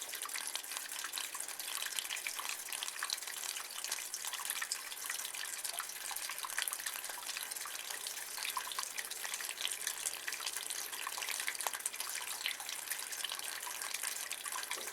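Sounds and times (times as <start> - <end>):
water running in gutter: 0.0 - 14.9.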